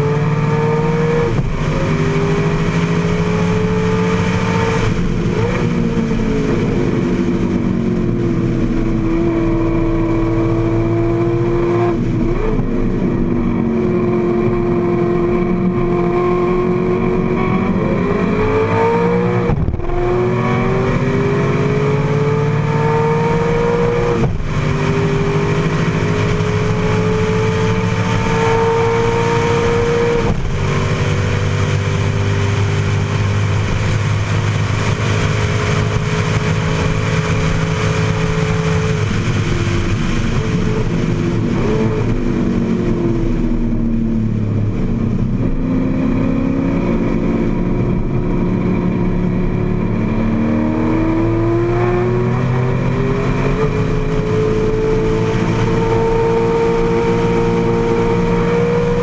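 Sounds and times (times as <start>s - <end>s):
racing engine accelerating: 0.0s - 59.0s.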